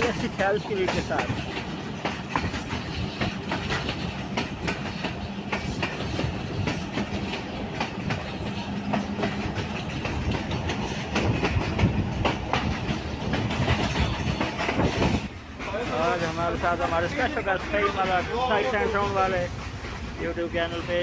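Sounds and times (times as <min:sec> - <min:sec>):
train coach rattling: 0:00.0 - 0:21.0
train wheels clicking over rails: 0:00.0 - 0:21.0.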